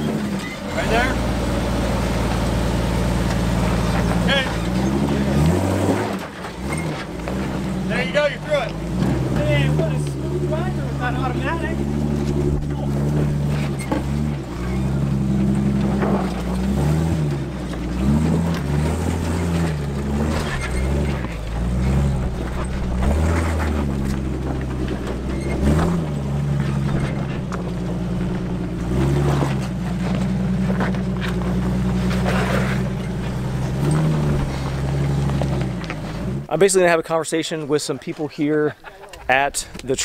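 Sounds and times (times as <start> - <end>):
car engine revving at low speed: 0.0 - 36.5.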